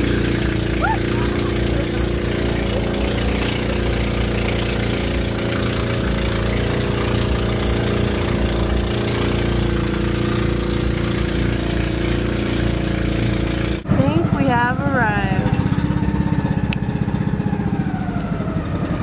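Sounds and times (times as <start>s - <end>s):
boat engine drone: 0.0s - 19.0s
water rushing along hull: 0.0s - 19.0s.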